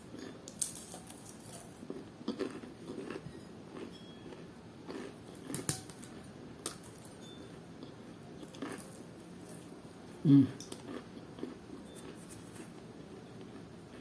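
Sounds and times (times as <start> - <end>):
quiet chewing: 0.1 - 5.6, 7.8 - 14.0
crisp food crunching: 0.1 - 7.2, 7.8 - 14.0.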